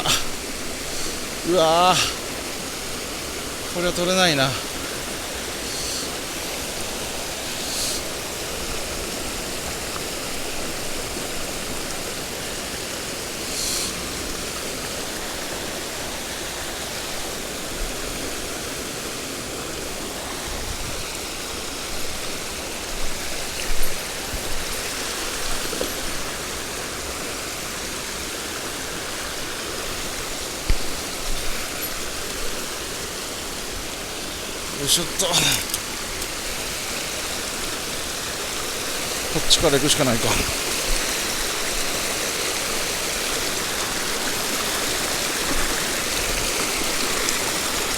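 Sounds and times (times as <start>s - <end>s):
stream rushing over rocks: 0.0s - 47.9s.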